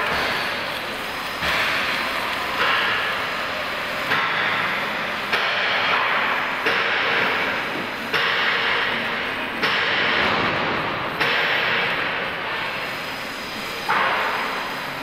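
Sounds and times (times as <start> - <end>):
welding machine hissing and crackling: 0.0 - 15.0.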